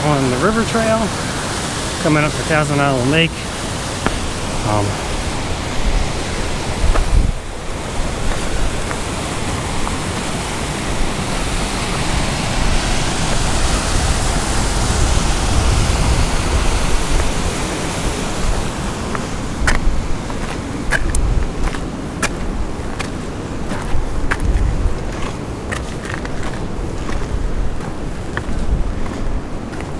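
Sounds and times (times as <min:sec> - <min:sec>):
mountain stream rushing: 0:00.0 - 0:29.9
wind buffeting microphone: 0:03.6 - 0:29.9.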